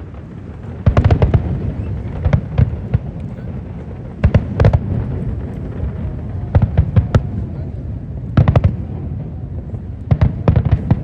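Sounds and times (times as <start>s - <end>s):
fireworks bangs: 0.0s - 11.0s
low rumble: 0.0s - 11.0s.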